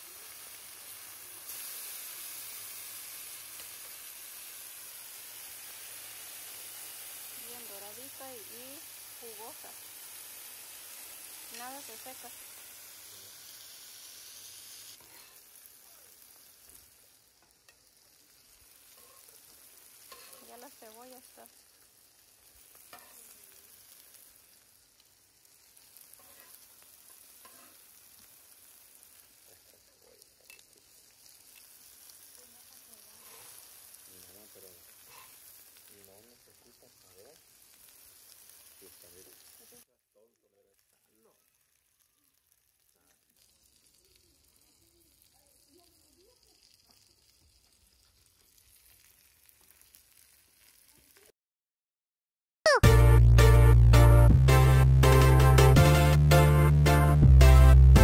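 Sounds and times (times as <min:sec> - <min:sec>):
meat sizzling on a griddle: 0:00.0 - 0:51.3.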